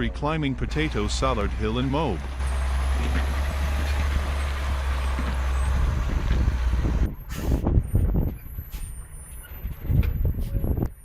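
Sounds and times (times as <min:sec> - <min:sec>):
diesel truck engine droning: 0:00.0 - 0:11.0
engine knocks: 0:00.7 - 0:11.0.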